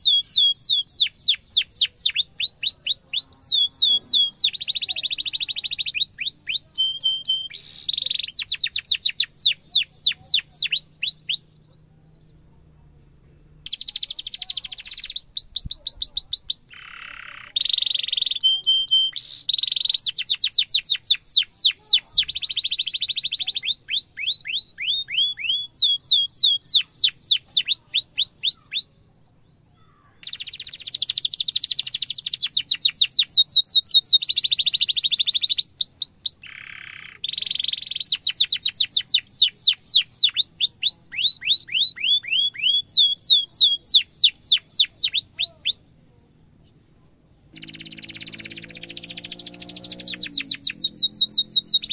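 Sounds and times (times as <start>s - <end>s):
canary singing: 0.0s - 12.4s, 13.6s - 51.9s.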